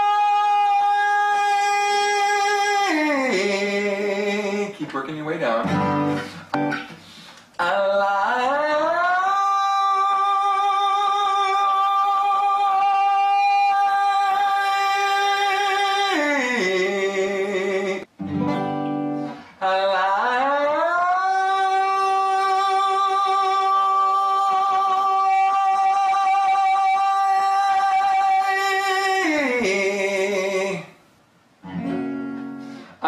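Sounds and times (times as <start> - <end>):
man singing vocal exercise: 0.0 - 6.3, 7.6 - 18.1, 19.3 - 31.0
acoustic guitar: 0.0 - 33.0.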